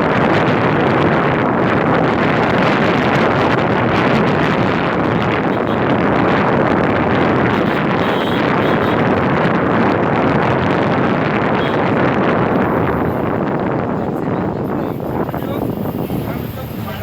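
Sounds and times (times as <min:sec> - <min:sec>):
moving bus rushing noise: 0:00.0 - 0:17.0
wind buffeting microphone: 0:00.0 - 0:17.0.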